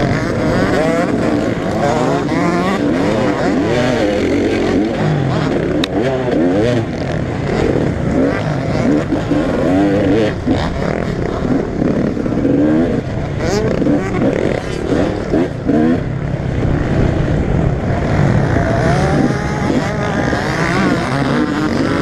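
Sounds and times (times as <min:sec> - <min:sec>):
motocross bikes racing: 0:00.0 - 0:22.0.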